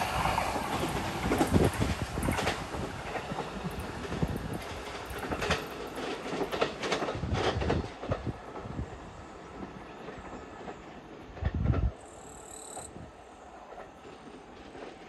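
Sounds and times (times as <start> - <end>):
train wheels clacking on rails: 0.0 - 15.0.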